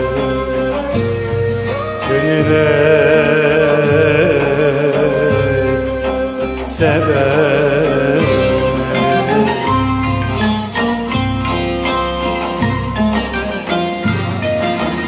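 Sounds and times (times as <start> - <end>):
folk song with lute: 0.0 - 15.0
low pulsing backing: 0.0 - 15.0.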